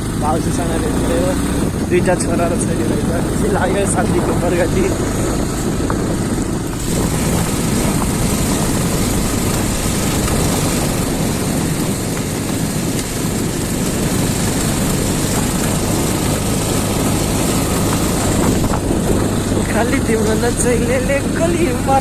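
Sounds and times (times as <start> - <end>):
vehicle engine running: 0.0 - 22.0
wind rumble on microphone: 0.0 - 22.0.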